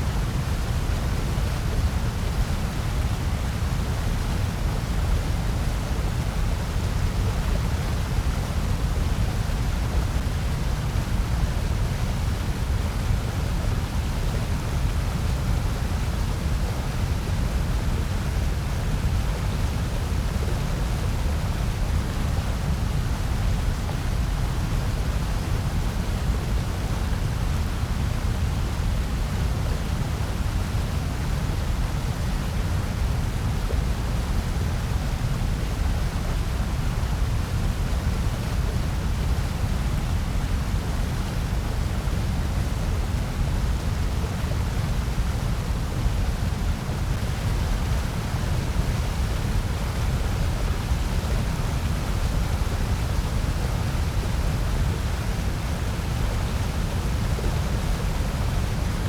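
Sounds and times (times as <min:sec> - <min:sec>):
white noise with deep rumble: 0:00.0 - 0:59.0.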